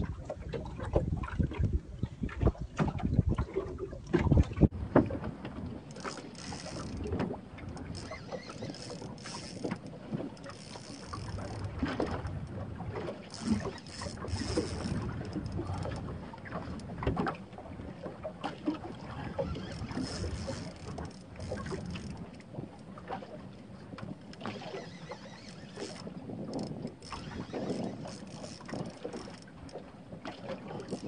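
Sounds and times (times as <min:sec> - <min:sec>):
wind on microphone: 0:00.0 - 0:18.1, 0:18.7 - 0:22.8, 0:23.8 - 0:29.7
water slapping against boat hull: 0:00.0 - 0:31.0.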